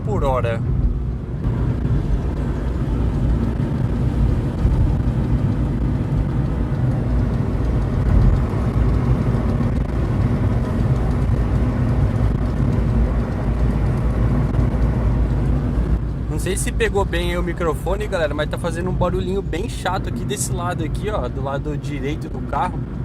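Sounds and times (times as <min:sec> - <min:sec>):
car cabin road noise: 0:00.0 - 0:23.0.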